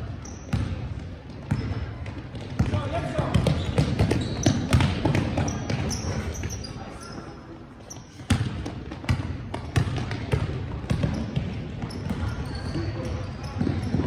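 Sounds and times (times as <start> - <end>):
sneakers squeaking: 0.0 - 14.0
basketball bouncing on court: 0.1 - 6.6, 7.9 - 14.0.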